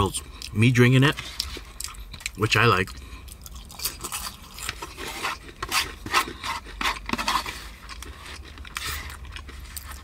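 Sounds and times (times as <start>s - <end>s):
slurping and scraping: 0.3s - 10.0s.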